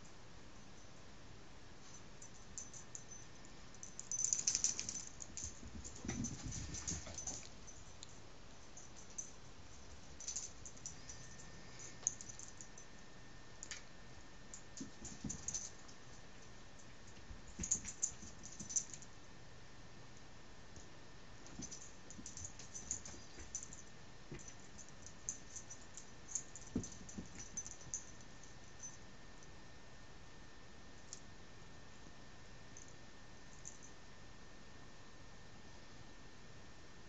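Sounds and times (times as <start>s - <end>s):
faint high whine: 0.0s - 37.0s.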